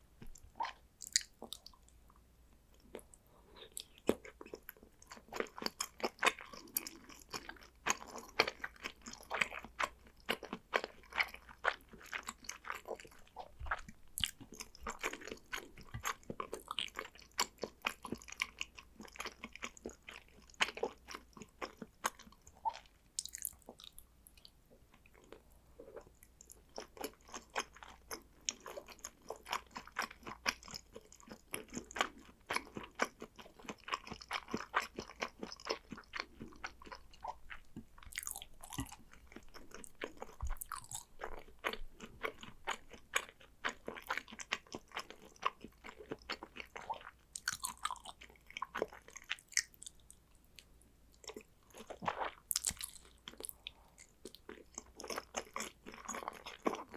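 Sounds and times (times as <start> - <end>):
person chewing: 0.2 - 1.9, 2.7 - 24.5, 25.1 - 56.9.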